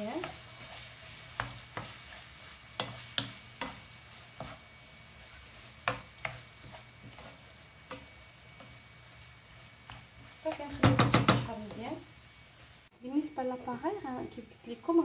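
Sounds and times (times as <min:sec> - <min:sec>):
utensil scraping a frying pan: 0:00.0 - 0:12.9
food sizzling faintly: 0:00.0 - 0:15.0.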